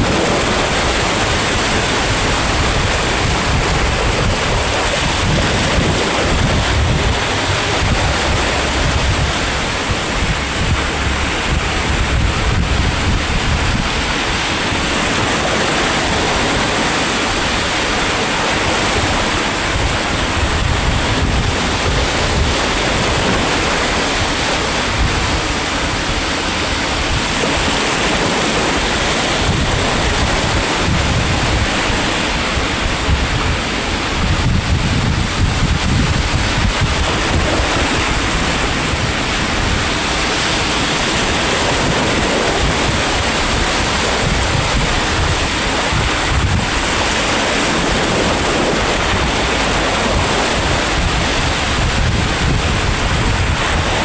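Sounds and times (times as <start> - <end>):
sea waves washing on shore: 0.0 - 54.0
wind buffeting microphone: 0.0 - 54.0.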